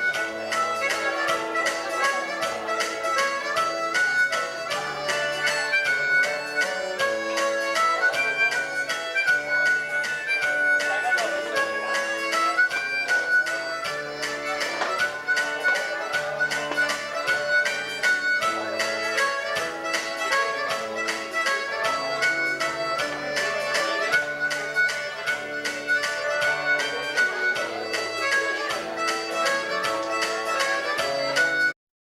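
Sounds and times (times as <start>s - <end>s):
harmonica lead line: 0.0s - 31.8s.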